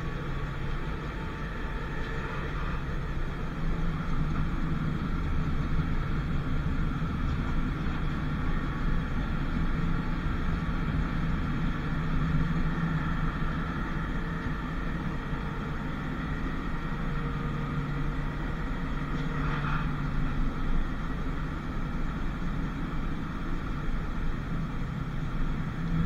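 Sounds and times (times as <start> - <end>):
constant low hum: 0.0 - 26.0
tram rumbling: 0.0 - 26.0.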